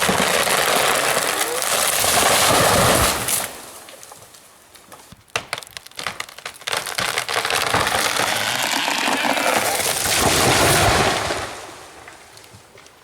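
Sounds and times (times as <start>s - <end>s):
sharp cracks and snaps: 0.0s - 10.5s.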